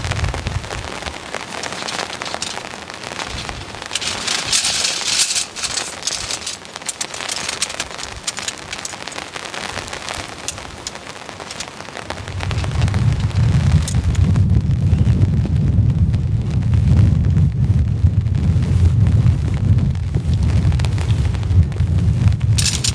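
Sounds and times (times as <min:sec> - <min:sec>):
heavy rain: 0:00.0 - 0:18.6
wind gusting on microphone: 0:00.0 - 0:22.9.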